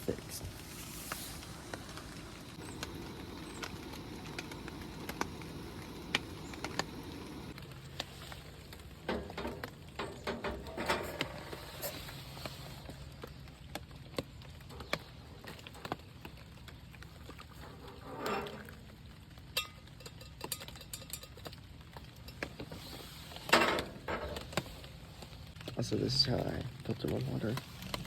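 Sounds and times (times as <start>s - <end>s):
camp cooking gear clicking and knocking: 1.1s - 12.6s, 13.2s - 28.0s.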